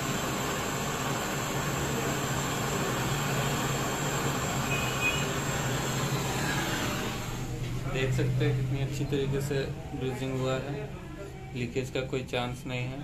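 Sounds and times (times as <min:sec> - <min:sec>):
torch flame hissing: 0:00.0 - 0:10.6.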